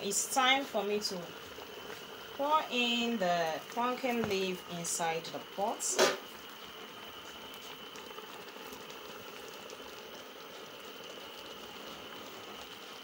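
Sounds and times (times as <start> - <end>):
soup bubbling at the boil: 0.0 - 13.0
soft crackle: 0.2 - 13.0.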